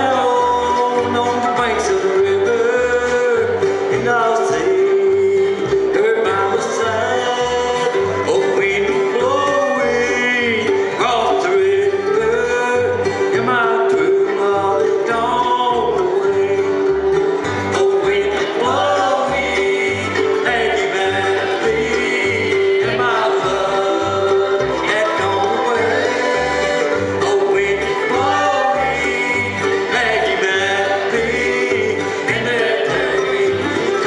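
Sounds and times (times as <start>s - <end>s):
acoustic guitars: 0.0s - 34.0s
banjo: 0.0s - 34.0s
fiddle: 0.0s - 34.0s
mandolin: 0.0s - 34.0s
upright bass: 0.0s - 34.0s.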